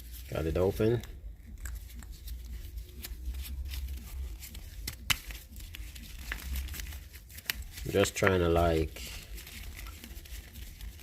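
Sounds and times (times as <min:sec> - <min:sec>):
low steady hum: 0:00.0 - 0:11.0
packet handling clicks and rustling: 0:00.7 - 0:11.0.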